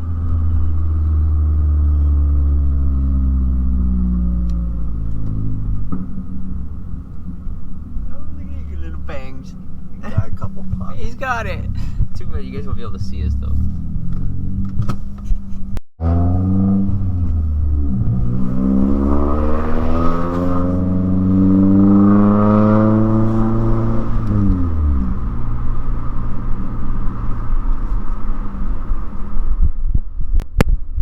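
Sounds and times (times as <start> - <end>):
loud car exhaust accelerating: 0.0 - 30.4.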